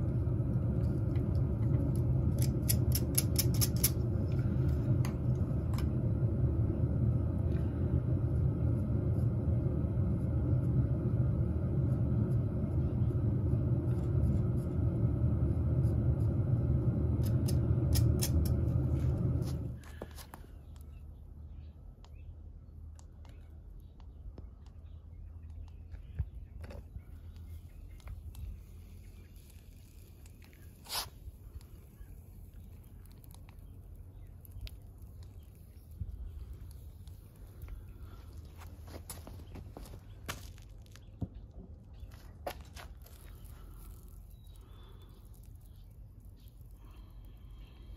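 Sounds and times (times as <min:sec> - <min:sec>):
steady low rumble: 0:00.0 - 0:47.9.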